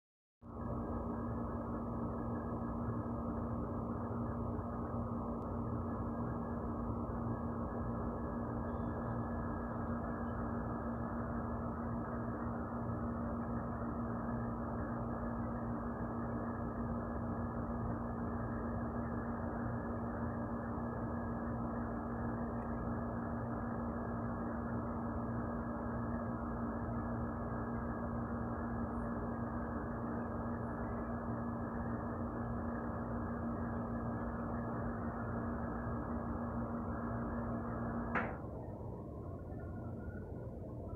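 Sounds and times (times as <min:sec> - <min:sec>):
mechanical hum with low drone: 0:00.4 - 0:40.9.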